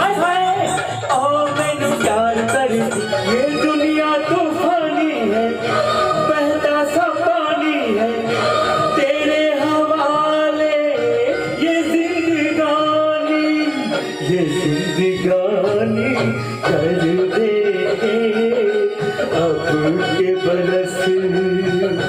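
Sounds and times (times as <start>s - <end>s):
man singing into microphone: 0.0s - 22.0s
music accompaniment: 0.0s - 22.0s.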